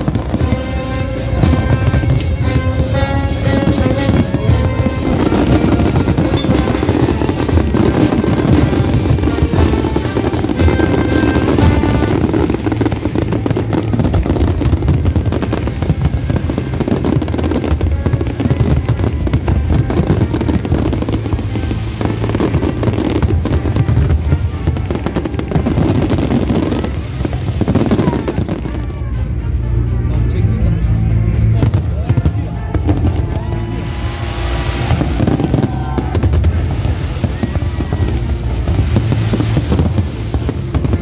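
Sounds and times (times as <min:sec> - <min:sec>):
fireworks bangs and crackles: 0:00.0 - 0:41.0
music: 0:00.0 - 0:41.0.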